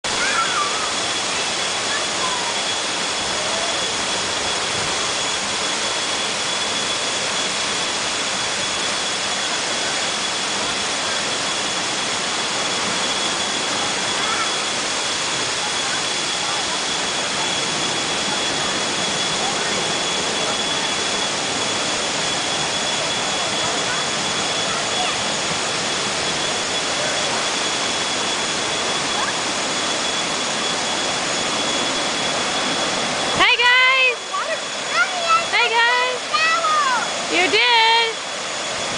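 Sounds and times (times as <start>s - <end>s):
waterfall pouring into pool: 0.1s - 38.9s.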